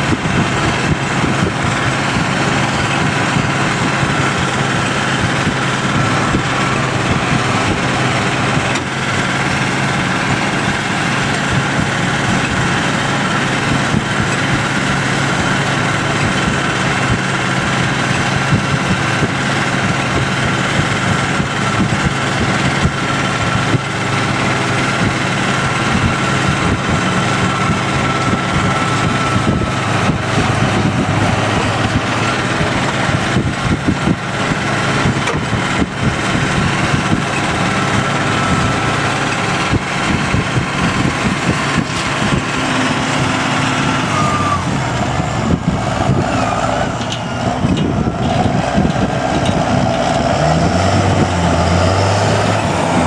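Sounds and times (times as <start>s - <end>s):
high whine: 0.0s - 53.0s
tractor diesel engine running: 0.0s - 53.0s.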